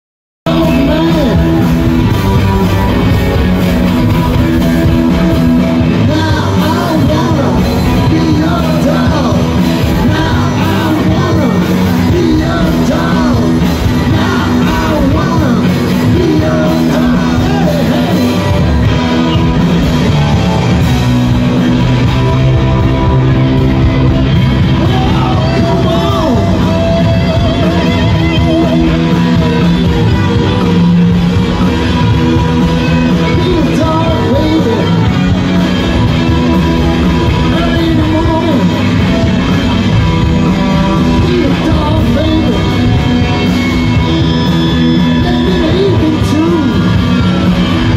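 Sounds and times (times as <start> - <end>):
bass guitar: 0.4 - 47.9
drums: 0.4 - 47.9
electric guitars: 0.5 - 47.9
person singing: 0.5 - 47.9.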